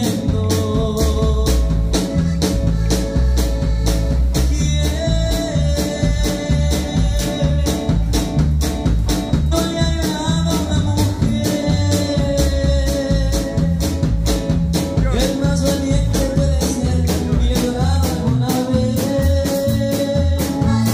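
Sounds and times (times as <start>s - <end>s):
conga: 0.0s - 20.9s
drum kit beat: 0.0s - 20.9s
electric bass: 0.0s - 20.9s
electric guitar: 0.0s - 20.9s
keyboards: 0.0s - 20.9s.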